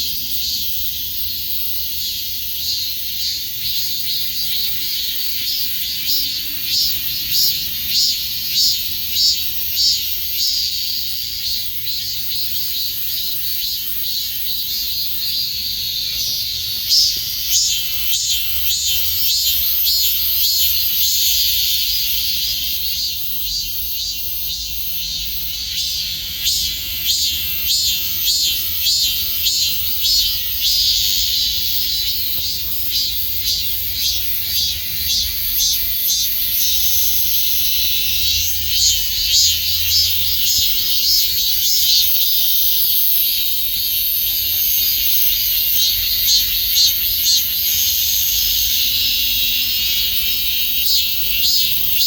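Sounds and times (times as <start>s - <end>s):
cicadas buzzing: 0.0s - 52.0s.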